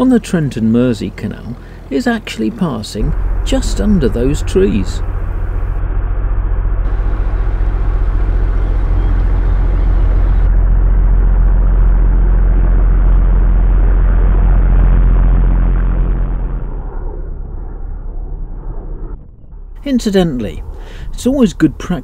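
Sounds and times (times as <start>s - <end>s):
boat diesel engine throbbing: 0.0s - 22.0s.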